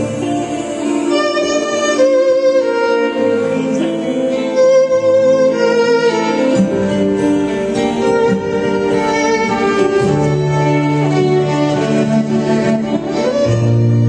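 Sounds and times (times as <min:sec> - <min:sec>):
guitar: 0:00.0 - 0:14.0
violin melody: 0:00.0 - 0:14.0.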